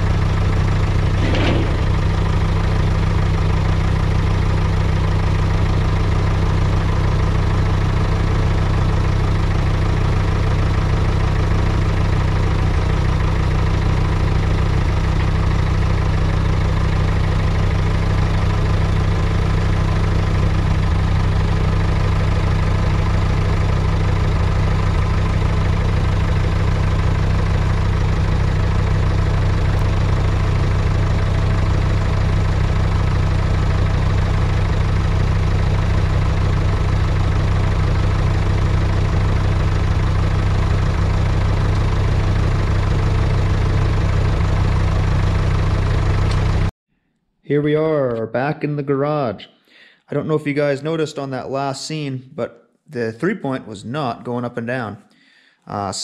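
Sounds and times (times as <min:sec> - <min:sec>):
tractor engine idling: 0:00.0 - 0:46.7.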